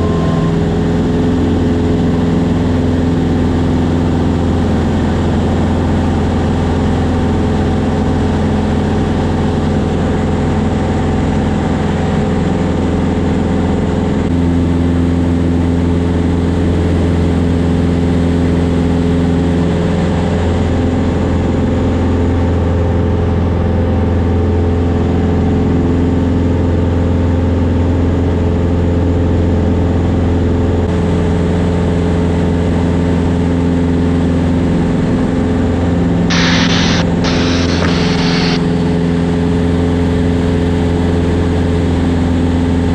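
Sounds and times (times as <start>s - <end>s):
airplane engine and propeller drone: 0.0s - 42.9s.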